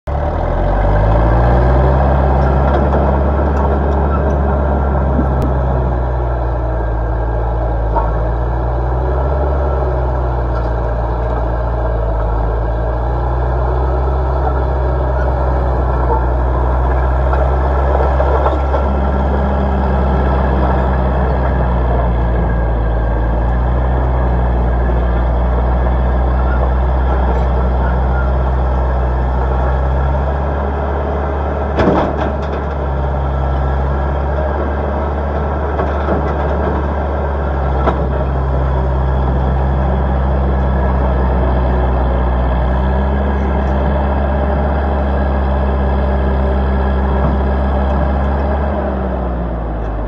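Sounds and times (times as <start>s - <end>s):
diesel engine working under load: 0.1s - 50.0s.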